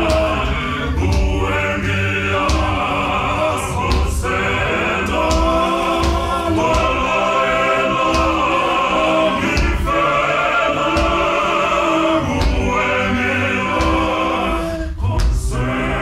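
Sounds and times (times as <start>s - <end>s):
male choir singing a hymn: 0.0s - 16.0s.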